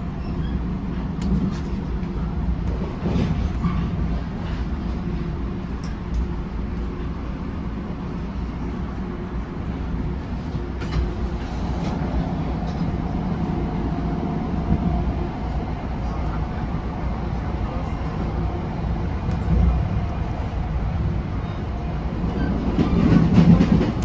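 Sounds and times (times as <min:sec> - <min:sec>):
train coach rumbling: 0:00.0 - 0:24.0.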